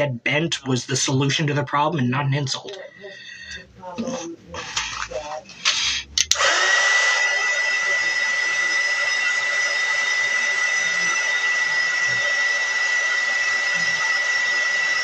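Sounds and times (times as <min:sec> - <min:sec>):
hot-air blower fan whining: 0:02.7 - 0:15.0.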